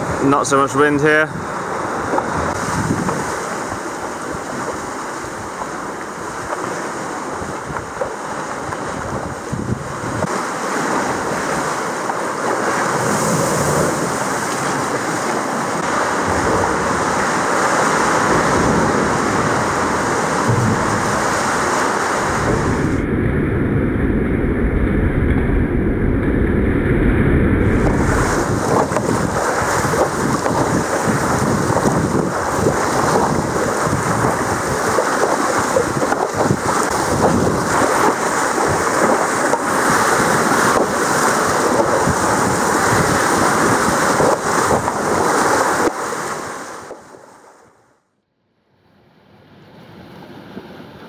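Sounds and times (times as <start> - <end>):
sea water lapping and splashing: 0.0 - 23.0, 27.7 - 47.8
wind on microphone: 0.0 - 47.2.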